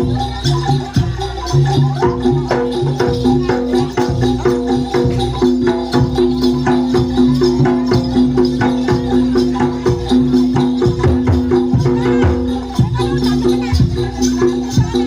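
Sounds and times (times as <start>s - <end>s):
drum strokes: 0.0s - 15.0s
metallophone notes: 0.0s - 15.0s
shaking rattle: 0.0s - 15.0s.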